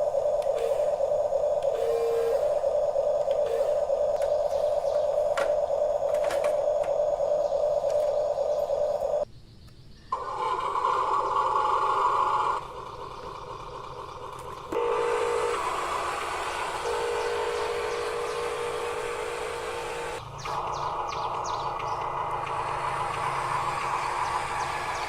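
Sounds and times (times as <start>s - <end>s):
toy electric motors whining: 0.0s - 9.2s, 10.2s - 25.0s.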